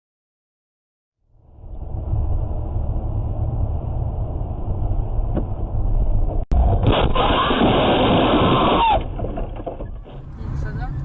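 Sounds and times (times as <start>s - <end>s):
car road and engine rumble: 1.2s - 11.0s.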